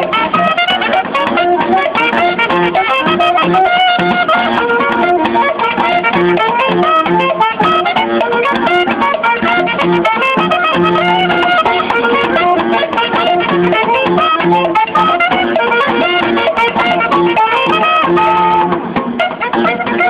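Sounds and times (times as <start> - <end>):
bass line: 0.0 - 19.0
percussion strikes: 0.0 - 20.0
wind instrument melody: 0.0 - 20.0.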